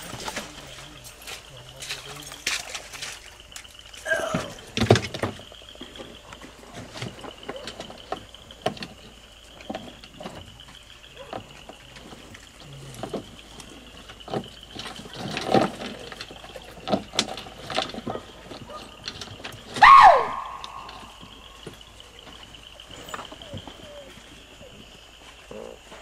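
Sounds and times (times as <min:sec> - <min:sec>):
knocks and clicks of handling gear: 0:00.0 - 0:24.3.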